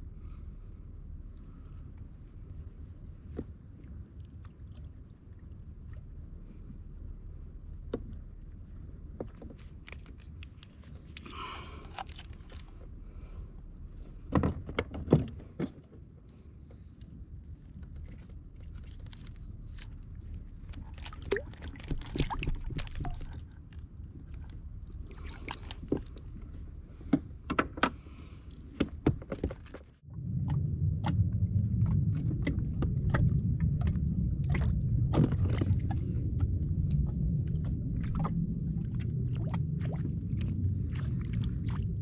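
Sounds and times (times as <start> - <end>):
rumble of water and wind: 0.0 - 42.0.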